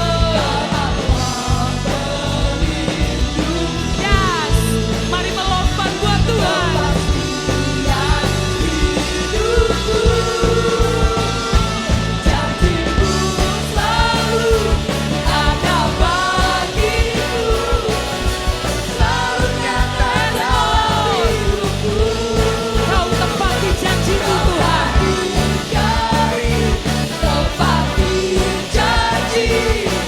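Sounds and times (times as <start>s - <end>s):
drum and bass beat: 0.0s - 30.0s
rock worship band playing: 0.0s - 30.0s.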